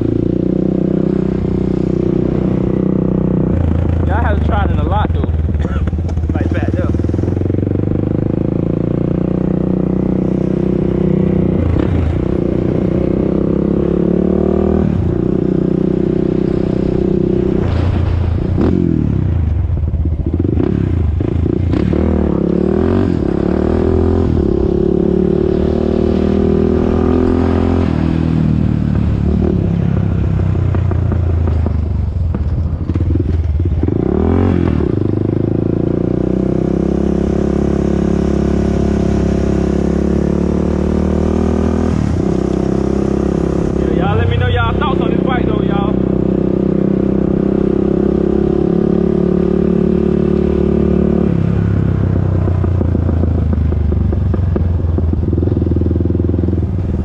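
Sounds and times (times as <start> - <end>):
atv engine revving: 0.0 - 31.8, 32.4 - 57.0.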